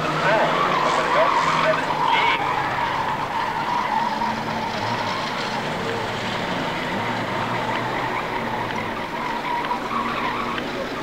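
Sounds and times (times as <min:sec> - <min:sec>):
race car engines passing: 0:00.0 - 0:11.0.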